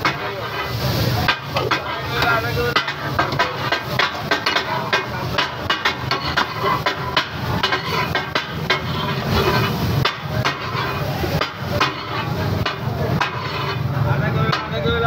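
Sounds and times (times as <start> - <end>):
metal spatula clanging on griddle: 0.0 - 15.0.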